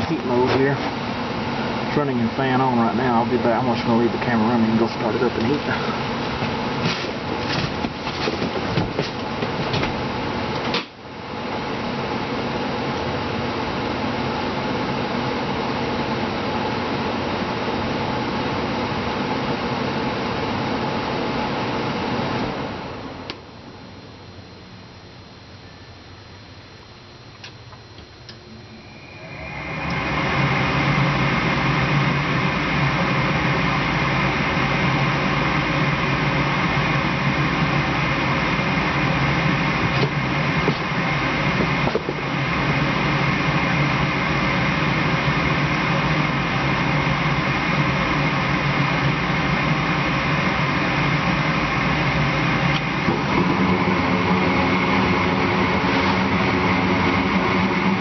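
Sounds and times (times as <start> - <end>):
deeper hum: 0.0 - 58.0
furnace motor humming: 0.0 - 58.0.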